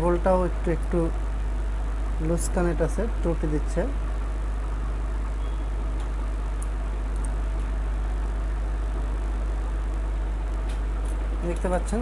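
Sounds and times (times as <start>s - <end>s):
electrical mains hum: 0.0s - 12.0s
faint buzz: 0.0s - 12.0s.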